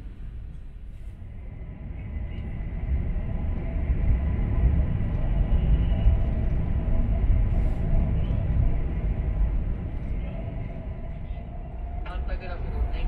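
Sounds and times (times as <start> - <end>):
faint steady whine: 0.0 - 13.0
train running gear rumbling: 0.0 - 13.0.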